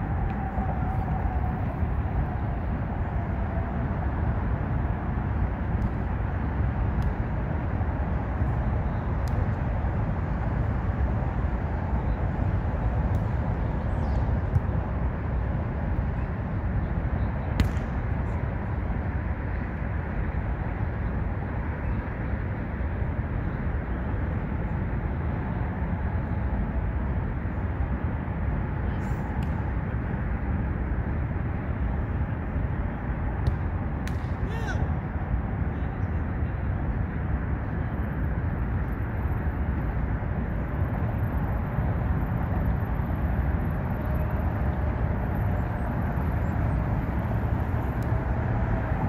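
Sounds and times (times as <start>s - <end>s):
low rumble of highway traffic: 0.0s - 49.0s.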